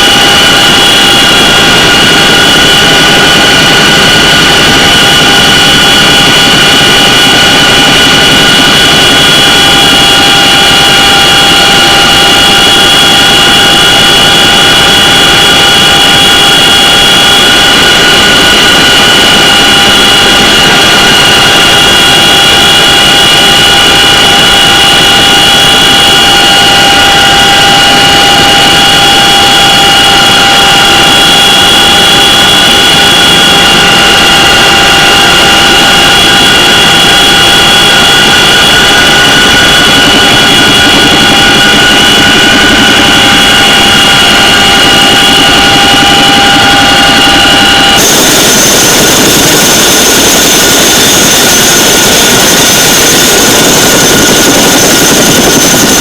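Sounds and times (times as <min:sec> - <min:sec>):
helicopter rotor noise: 0:00.0 - 0:56.0
turbine engine whine: 0:00.0 - 0:56.0.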